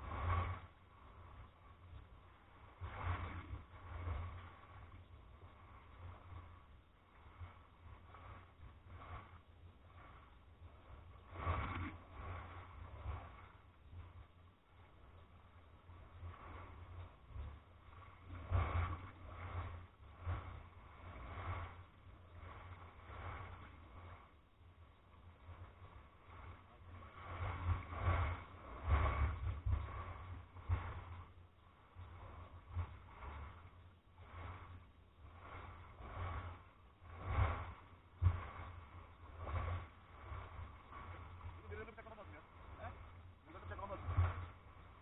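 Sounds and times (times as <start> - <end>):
steady low rumble: 0.0 - 45.0
waves washing over pebbles: 0.0 - 45.0.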